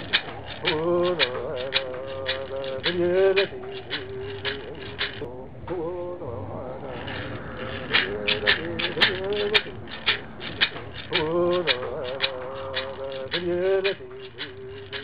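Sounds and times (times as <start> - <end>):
man chanting: 0.0 - 15.0
rhythmic rattle: 0.0 - 15.0.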